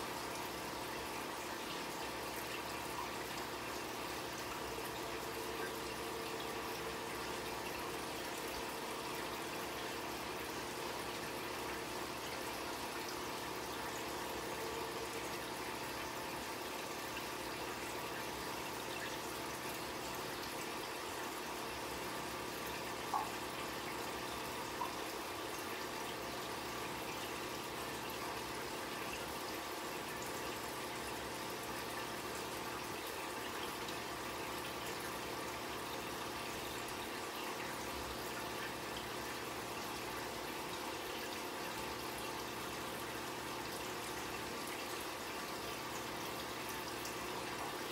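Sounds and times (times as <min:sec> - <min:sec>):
aquarium filter pump humming: 0:00.0 - 0:47.9
water trickling: 0:00.0 - 0:47.9.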